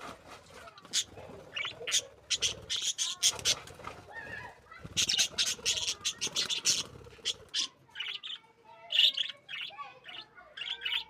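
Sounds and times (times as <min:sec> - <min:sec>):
parrots chirping: 0:00.7 - 0:03.6, 0:04.2 - 0:11.0.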